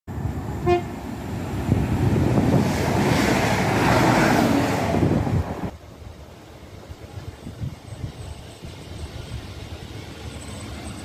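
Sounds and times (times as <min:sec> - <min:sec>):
wind buffeting microphone: 0:00.1 - 0:06.1, 0:06.7 - 0:10.2
passenger train passing: 0:00.1 - 0:11.0.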